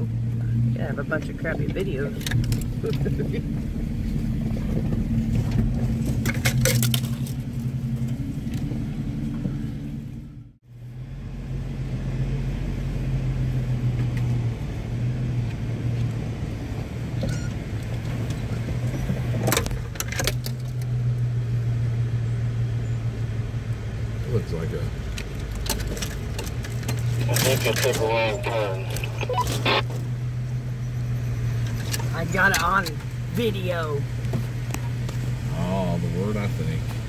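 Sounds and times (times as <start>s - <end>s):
vehicle engine droning: 0.0s - 37.0s.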